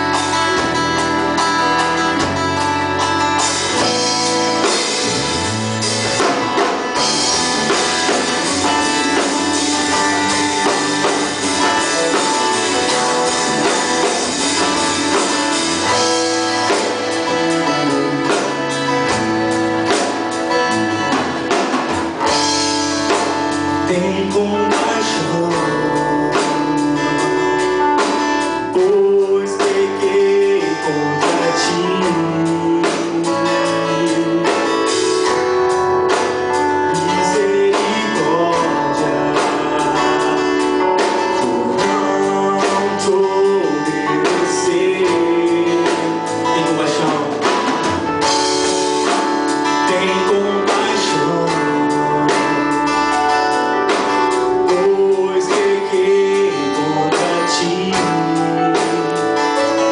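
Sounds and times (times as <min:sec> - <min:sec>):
live band with guitar and drums: 0:00.0 - 0:59.9
person singing: 0:00.0 - 0:59.9.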